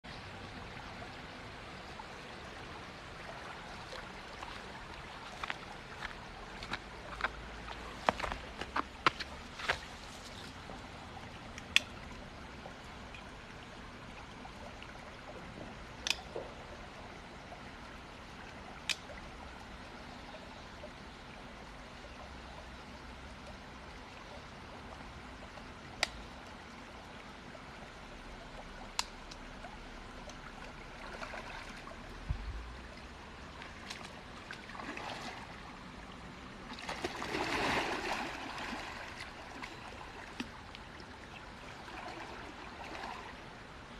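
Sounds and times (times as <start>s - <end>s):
stream trickling over rocks: 0.1s - 43.9s.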